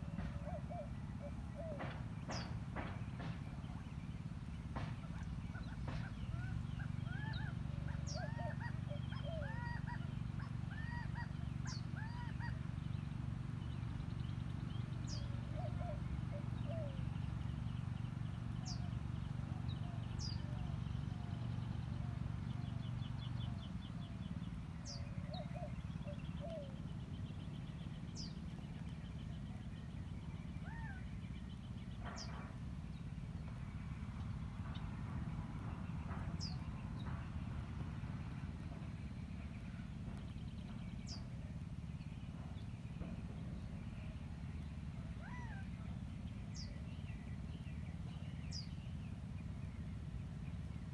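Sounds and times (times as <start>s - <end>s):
birds chirping and trilling: 0.0s - 50.9s.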